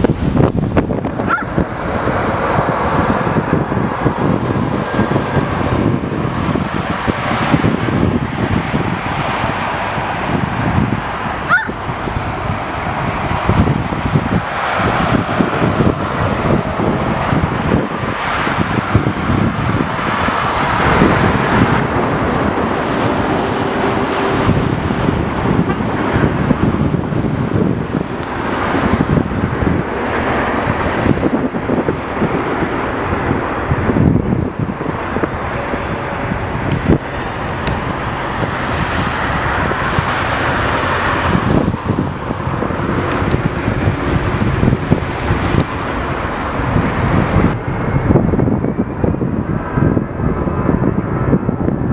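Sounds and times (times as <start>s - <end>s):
jet engine rumble: 0.0s - 51.9s
wind buffeting microphone: 0.0s - 51.9s.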